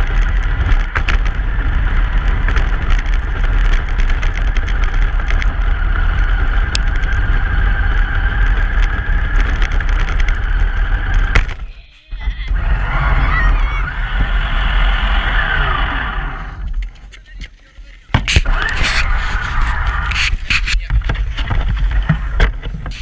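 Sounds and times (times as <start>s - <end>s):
truck road noise rumble: 0.0s - 17.4s, 18.1s - 23.0s.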